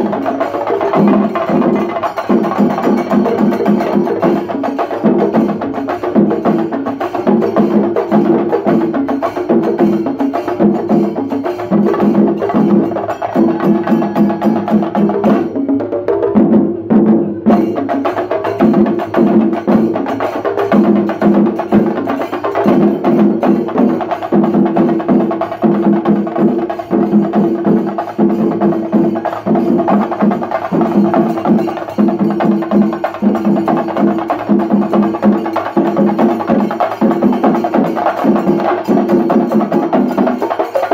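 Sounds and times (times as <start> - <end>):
drums beaten with sticks: 0.0 - 40.9.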